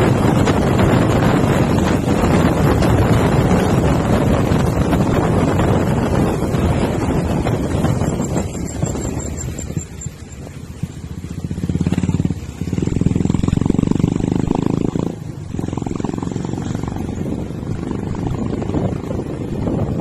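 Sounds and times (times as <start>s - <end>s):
diesel bus engine rumbling: 0.0s - 20.0s.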